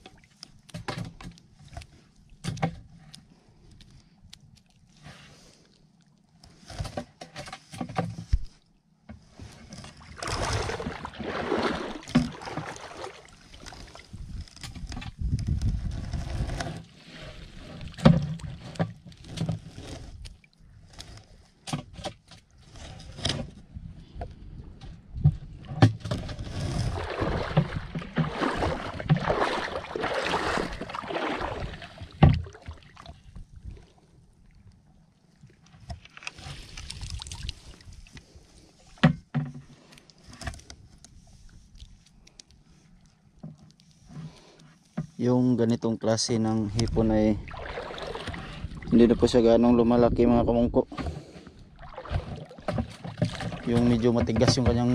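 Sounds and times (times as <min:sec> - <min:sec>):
shallow water sloshing and splashing: 0:00.0 - 0:45.2, 0:46.2 - 0:54.9.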